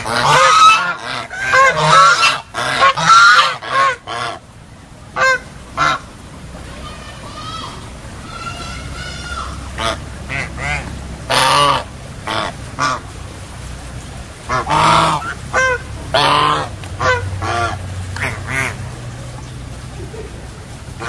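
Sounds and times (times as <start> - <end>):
ducks quacking: 0.0 - 4.5, 5.1 - 6.1, 8.2 - 13.2, 14.4 - 21.0.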